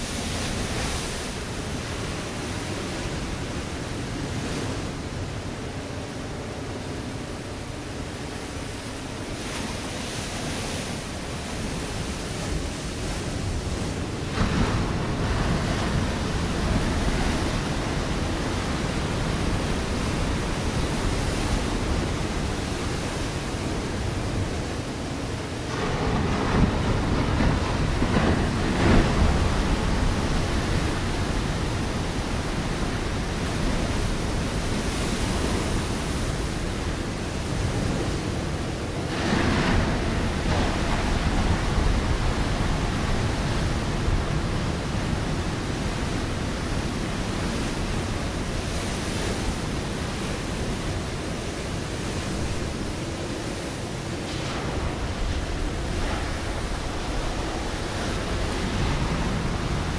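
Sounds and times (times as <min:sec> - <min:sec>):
waves breaking on rocky shore: 0:00.0 - 0:59.9.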